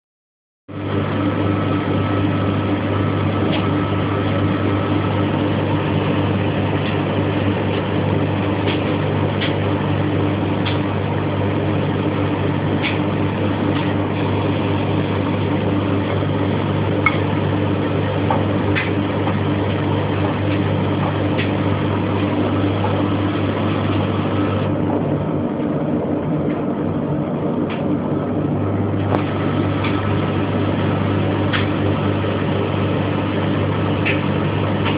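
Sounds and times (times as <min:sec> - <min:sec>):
washing machine and dryer rumble: 0:00.7 - 0:34.9.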